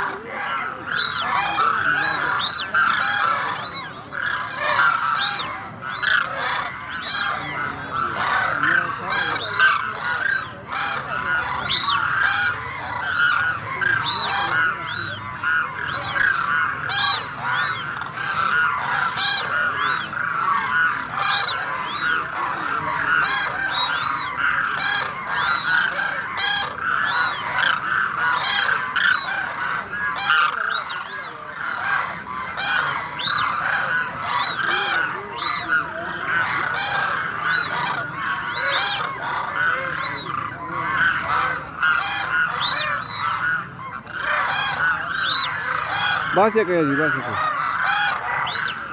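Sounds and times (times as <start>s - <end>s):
flock of cranes calling: 0.0s - 48.9s.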